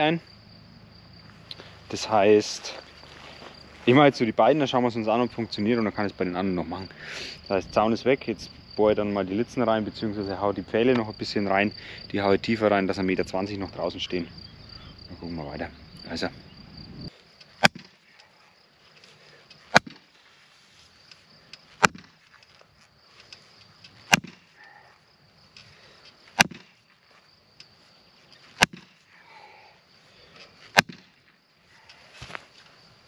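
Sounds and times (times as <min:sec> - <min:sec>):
crickets chirring: 0:00.0 - 0:33.0.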